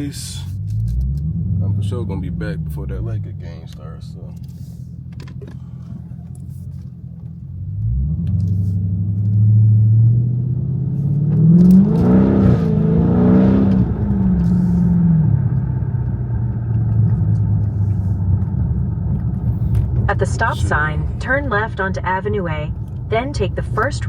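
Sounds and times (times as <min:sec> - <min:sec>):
car engine revving and rumbling: 0:00.0 - 0:24.0.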